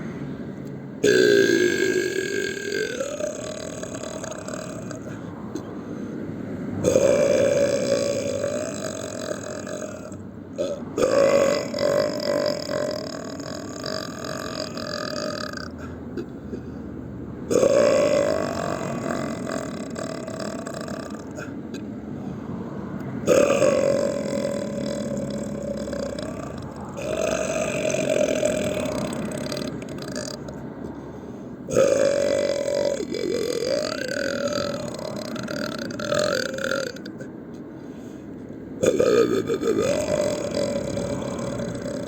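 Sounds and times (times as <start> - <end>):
man burping loudly: 1.0 - 5.7, 6.8 - 16.6, 17.5 - 21.8, 23.2 - 31.0, 31.7 - 37.4, 38.8 - 42.0.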